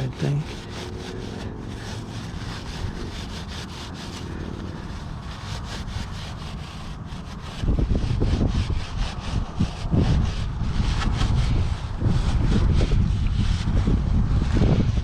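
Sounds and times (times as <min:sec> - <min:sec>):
rag rubbing on a chain: 0:00.0 - 0:14.0
low rumble on microphone: 0:00.0 - 0:15.0.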